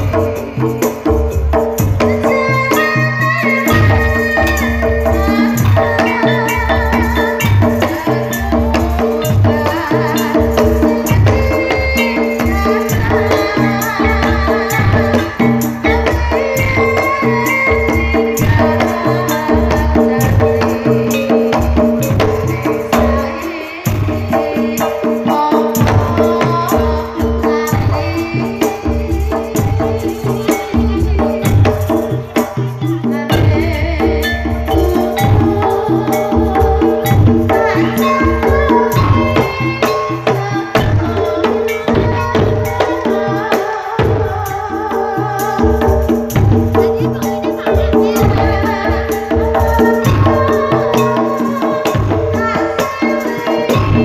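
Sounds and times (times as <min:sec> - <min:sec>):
metallophones struck with mallets: 0:00.0 - 0:44.5
drum beat: 0:00.0 - 0:54.0
woman singing: 0:00.0 - 0:54.0.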